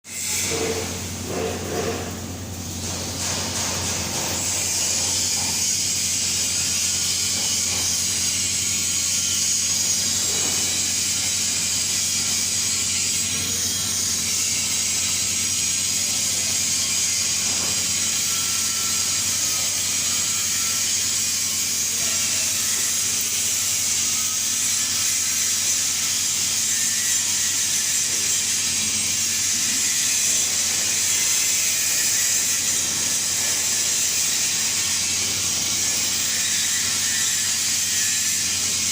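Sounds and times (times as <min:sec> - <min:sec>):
welding arc hissing: 0:00.1 - 0:38.9.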